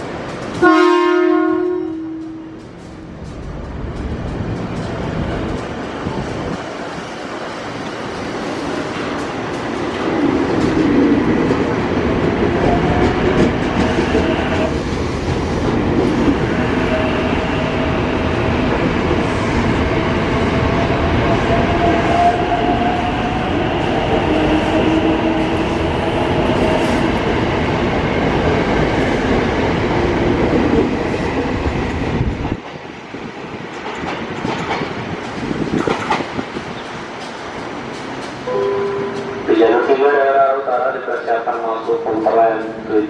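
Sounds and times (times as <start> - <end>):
train wheel clacks: 0.0 - 8.0, 8.7 - 40.1
electric train passing: 0.0 - 43.0.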